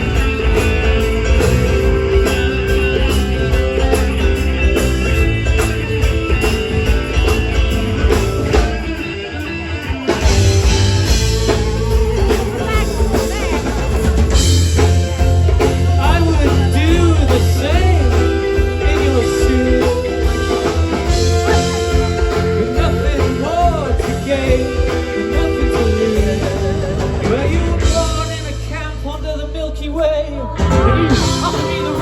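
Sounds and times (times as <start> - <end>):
heavy bass: 0.0 - 9.1, 9.9 - 32.0
live rock band playing: 0.0 - 32.0.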